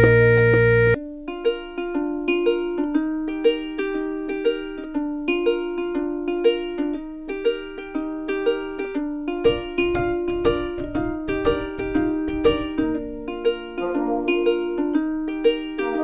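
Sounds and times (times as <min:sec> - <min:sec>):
plucked-string tune: 0:00.0 - 0:16.0.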